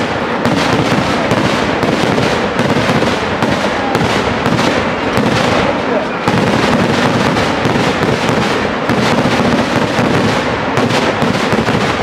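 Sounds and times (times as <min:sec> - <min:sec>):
fireworks barrage crackling: 0:00.0 - 0:12.0.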